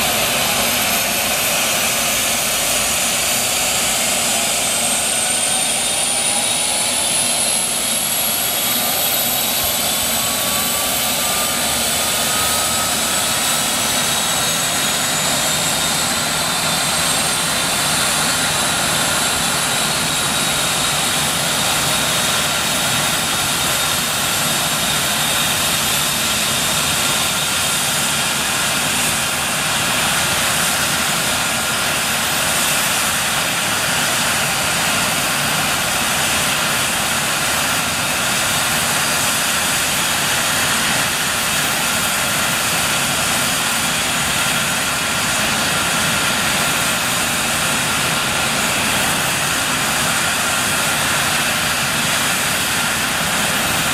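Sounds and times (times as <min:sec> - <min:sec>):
helicopter turbine whine: 0:00.0 - 0:53.9.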